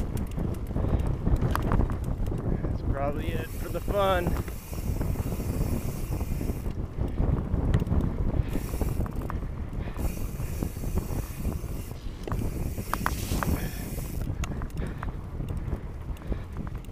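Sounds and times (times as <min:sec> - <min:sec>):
bike rattling and clicking: 0:00.0 - 0:16.9
bike tyres rumbling on dirt: 0:00.0 - 0:16.9
wind on microphone: 0:00.0 - 0:16.9.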